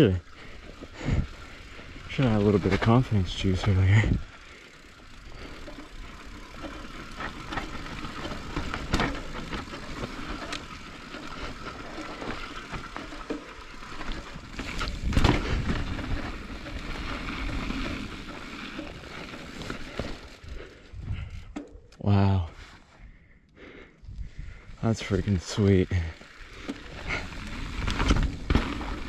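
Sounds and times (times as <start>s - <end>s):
bike rattling: 0.0s - 29.0s
bike tyres on dirt and rock: 0.0s - 29.0s.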